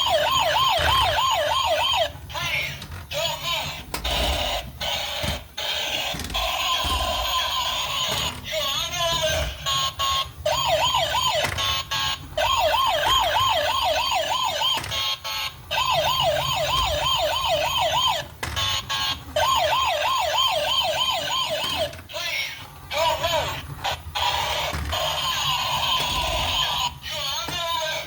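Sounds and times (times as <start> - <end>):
toy police car siren warbling: 0.0 - 28.0.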